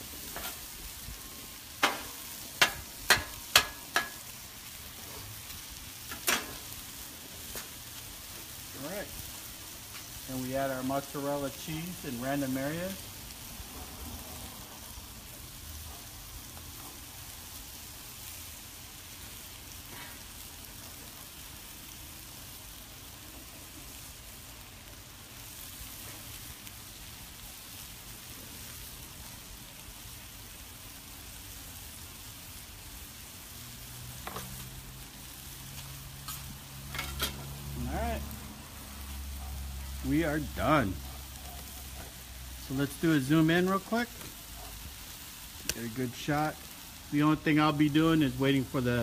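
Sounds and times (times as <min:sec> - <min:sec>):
food sizzling on griddle: 0:00.0 - 0:49.0.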